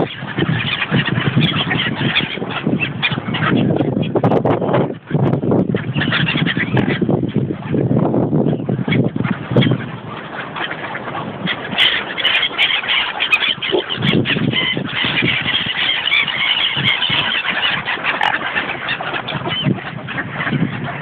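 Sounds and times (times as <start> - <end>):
seagulls and swans calling: 0.0 - 21.0.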